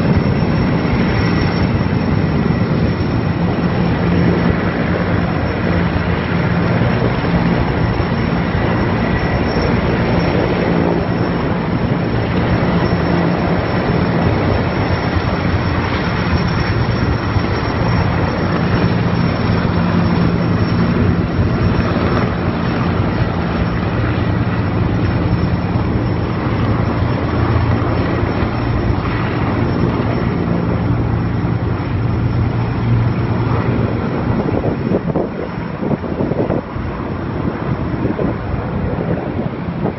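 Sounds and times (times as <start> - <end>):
helicopter rotor and turbine drone: 0.0 - 39.9.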